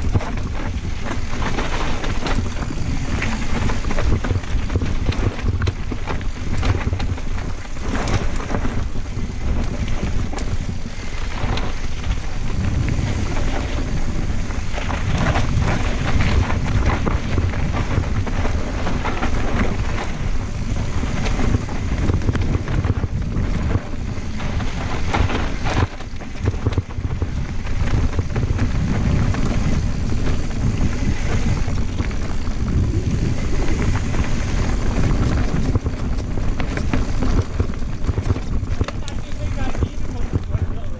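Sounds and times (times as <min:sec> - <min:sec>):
bike knocks and rattles: 0:00.0 - 0:40.9
tyres on dirt: 0:00.0 - 0:40.9
wind rumble on microphone: 0:00.0 - 0:40.9.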